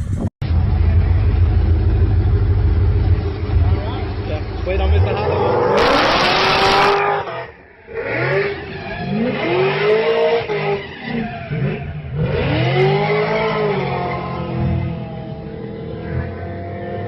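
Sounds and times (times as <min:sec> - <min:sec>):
engine revving: 0:00.4 - 0:17.0.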